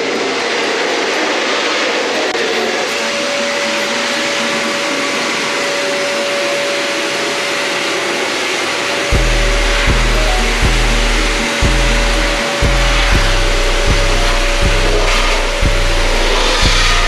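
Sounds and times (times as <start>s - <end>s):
blower whine: 0.0s - 17.0s
car dryer blower rushing air: 0.0s - 17.0s.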